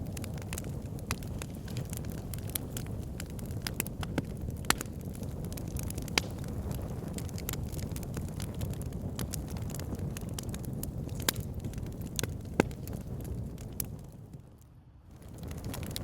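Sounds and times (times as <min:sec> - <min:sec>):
sharp fire pops: 0:00.0 - 0:16.0
wood fire crackling: 0:00.0 - 0:16.0.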